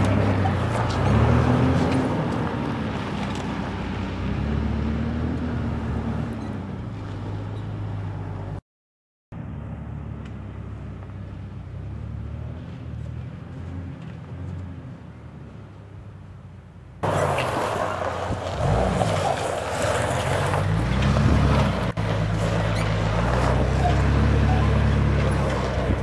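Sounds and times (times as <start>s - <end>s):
truck engine climbing: 0.0s - 8.6s, 9.3s - 26.0s.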